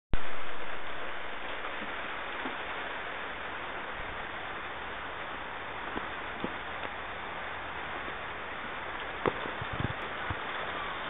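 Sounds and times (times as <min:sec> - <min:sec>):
rain on wet ground: 0:00.2 - 0:11.0.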